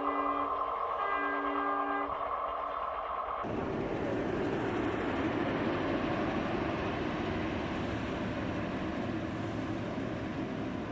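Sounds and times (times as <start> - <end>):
train wheels rushing on rails: 0.0 - 10.9.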